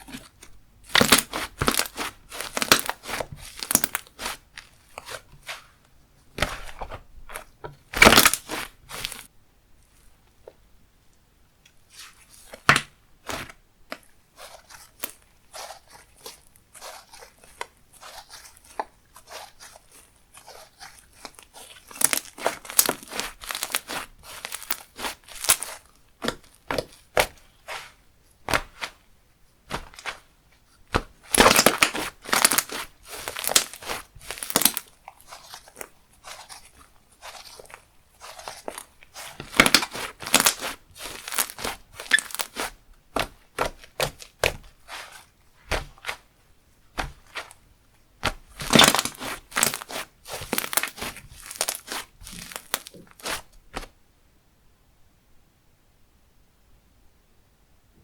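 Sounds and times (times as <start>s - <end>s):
hands squishing slime: 0.0s - 9.3s, 11.8s - 29.0s, 29.6s - 53.9s.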